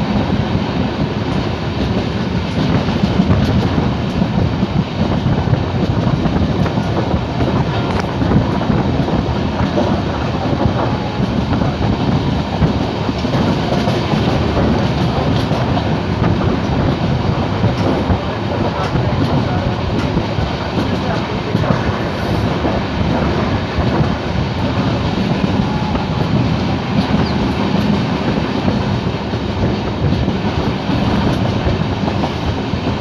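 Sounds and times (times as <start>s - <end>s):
train wheels rumbling on rails: 0.0s - 33.0s
wind noise: 0.0s - 33.0s.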